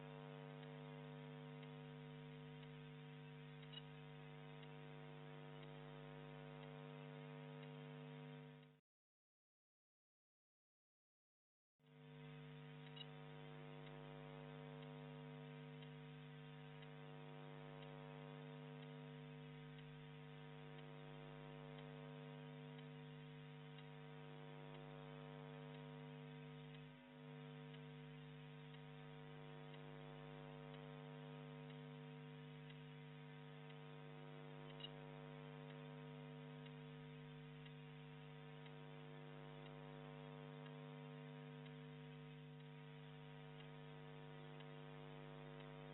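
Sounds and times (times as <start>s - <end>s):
electrical mains hum: 0.0s - 8.8s, 11.9s - 45.9s
faint ticks: 0.0s - 8.8s, 11.9s - 45.9s.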